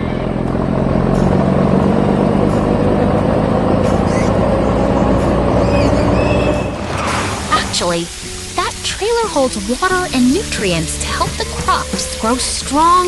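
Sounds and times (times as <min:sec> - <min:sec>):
truck engine driving: 0:00.0 - 0:13.0.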